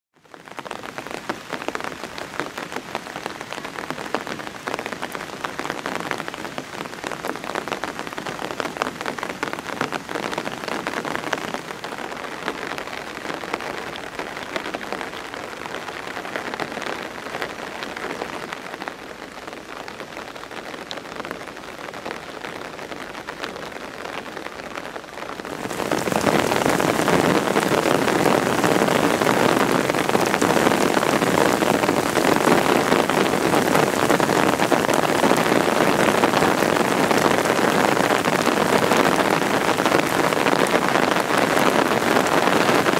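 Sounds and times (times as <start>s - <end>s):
rain falling: 0.2s - 42.9s.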